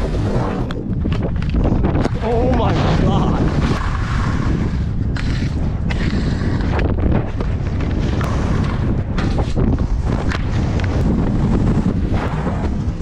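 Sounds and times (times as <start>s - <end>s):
skis scraping on snow: 0.0s - 13.0s
wind buffeting microphone: 0.0s - 13.0s.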